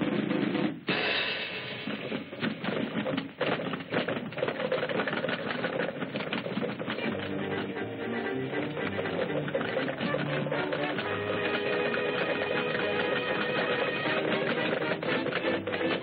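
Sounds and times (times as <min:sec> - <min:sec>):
rapid clattering rattle: 0:01.8 - 0:07.8, 0:08.5 - 0:16.0.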